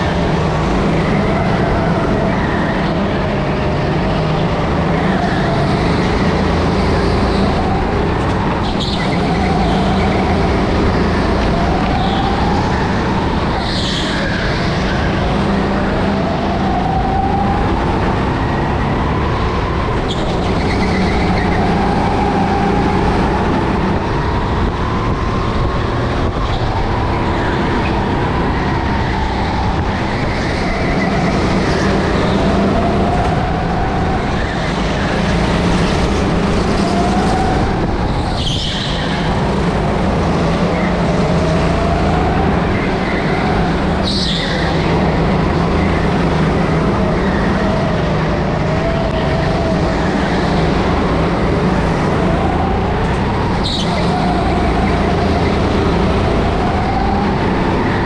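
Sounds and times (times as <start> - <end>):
go-kart engine running hard: 0.0 - 58.0.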